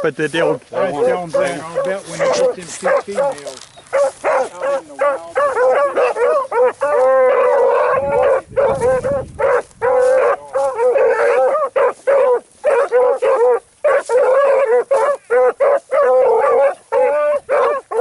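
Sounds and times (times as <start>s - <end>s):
hounds baying and yipping: 0.0s - 18.0s.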